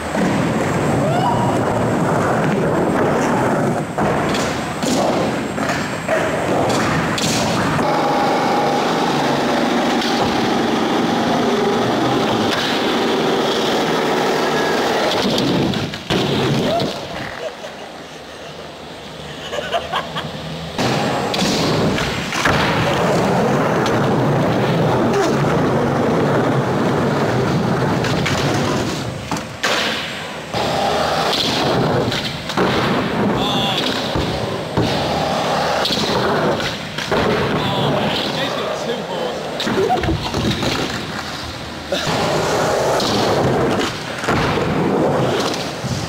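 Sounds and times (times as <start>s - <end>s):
skateboard impacts: 0.0s - 17.5s, 20.8s - 46.0s
skateboard wheels rolling: 0.0s - 46.0s.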